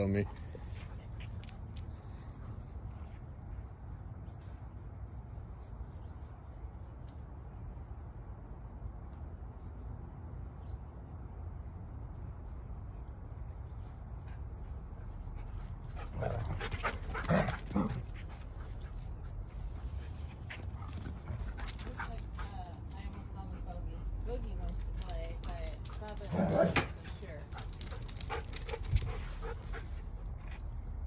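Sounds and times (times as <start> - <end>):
low steady background noise: 0.0 - 31.0.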